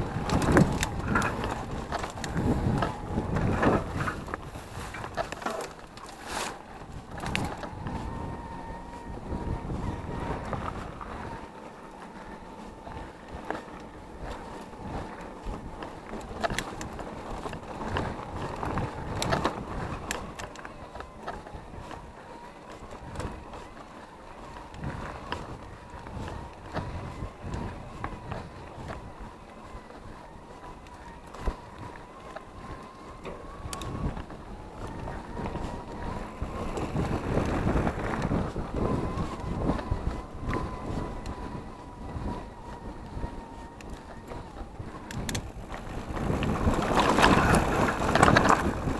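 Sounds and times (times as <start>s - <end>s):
bike clicks and rattles: 0.0s - 48.9s
bike rolling over dirt: 0.0s - 48.9s
faint steady whine: 0.0s - 48.9s
wind on microphone: 0.0s - 48.9s.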